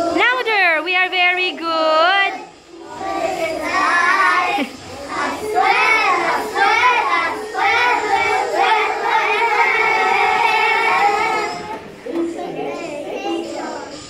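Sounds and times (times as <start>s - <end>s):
children singing together: 2.3s - 14.0s.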